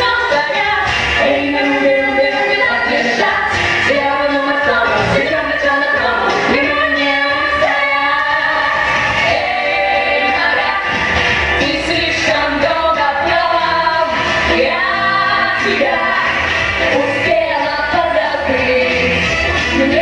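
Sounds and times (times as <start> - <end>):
group singing pop song: 0.0 - 20.0.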